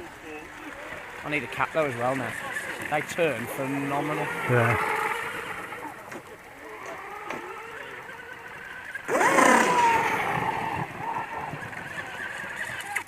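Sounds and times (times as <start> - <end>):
rc boat motor whine: 0.0 - 13.0.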